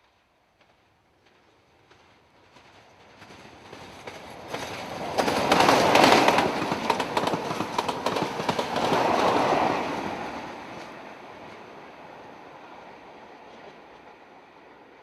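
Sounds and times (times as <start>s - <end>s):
diesel train passing: 0.6s - 15.0s.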